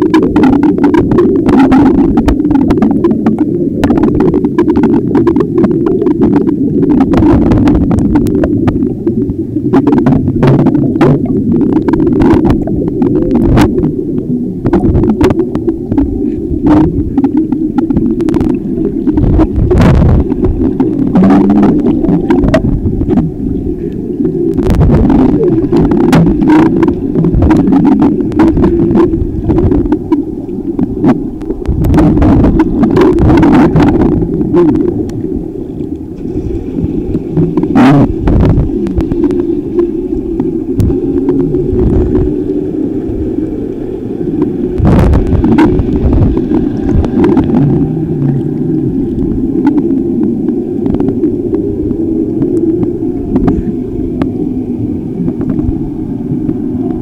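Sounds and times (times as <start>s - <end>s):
underwater rumble of moving water: 0.0s - 57.0s.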